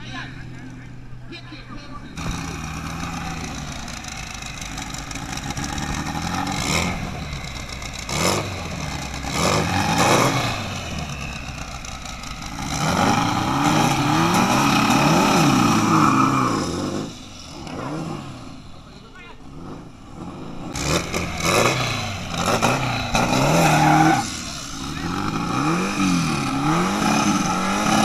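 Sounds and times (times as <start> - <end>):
racing engine revving: 2.1 - 28.0.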